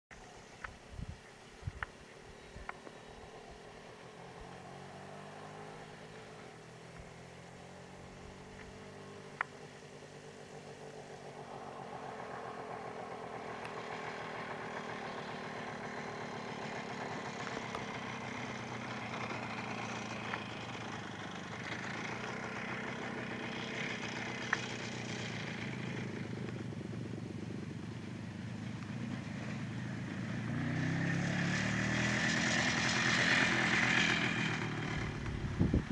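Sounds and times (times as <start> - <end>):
motorcycle engine running: 1.6 - 35.9.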